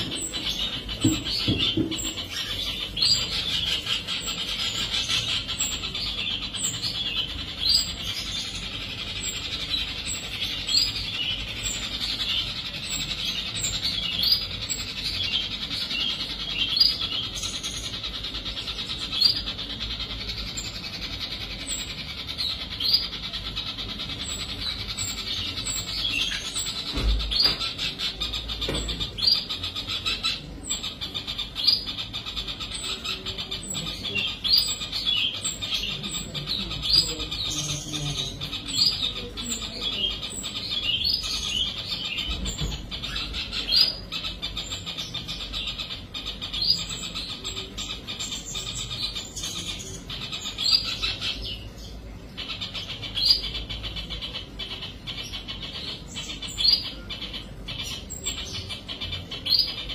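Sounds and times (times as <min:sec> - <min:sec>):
bird chirping: 0:00.0 - 0:59.9
high-pitched background bird chorus: 0:00.0 - 0:59.9.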